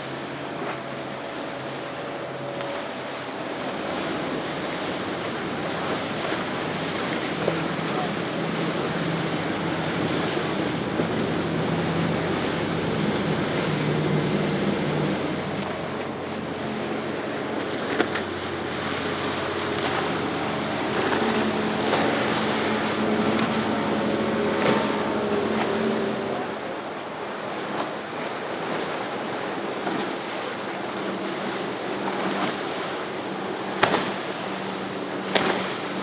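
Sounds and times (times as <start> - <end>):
boat engine hum: 0.0 - 36.0
water rushing: 0.0 - 36.0
wind: 0.0 - 36.0.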